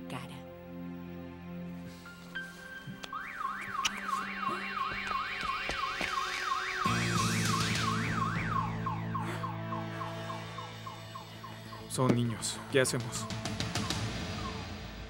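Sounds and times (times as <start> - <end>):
background music: 0.0 - 15.0
emergency vehicle siren yelping: 2.9 - 15.0.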